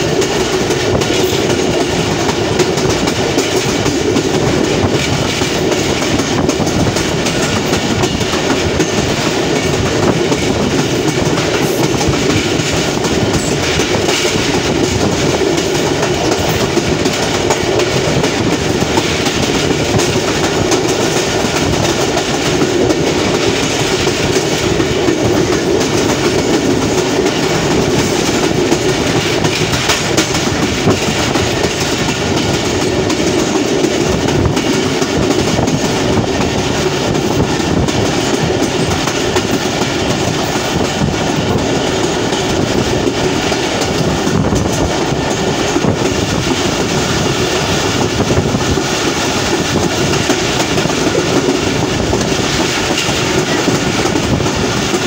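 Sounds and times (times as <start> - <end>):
clickety-clack over track joints: 0.0 - 55.0
train wheels rumbling and rattling: 0.0 - 55.0.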